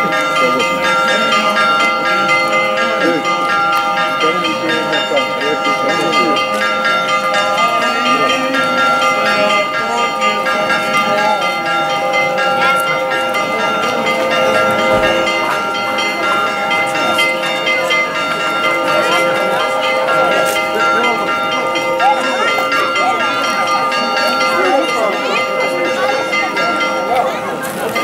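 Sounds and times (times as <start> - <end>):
church bells ringing: 0.0 - 28.0
crowd chatter: 0.0 - 28.0.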